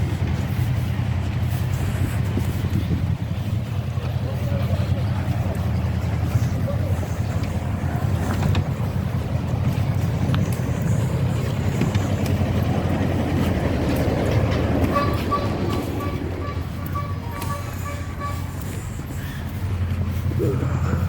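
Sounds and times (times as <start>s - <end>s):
miniature train engine hum: 0.0s - 21.0s.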